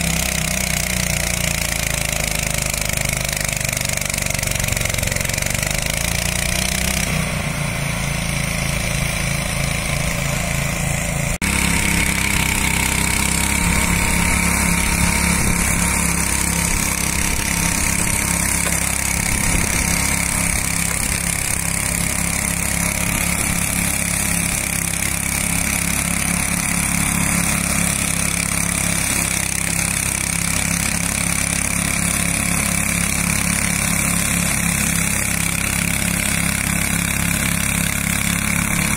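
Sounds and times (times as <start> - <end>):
small petrol mower engine straining: 0.0 - 38.9.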